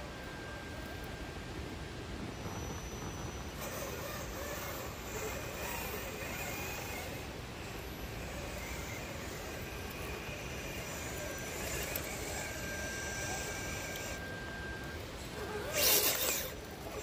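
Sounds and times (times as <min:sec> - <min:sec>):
rc car motor and gear whine: 0:00.0 - 0:17.0.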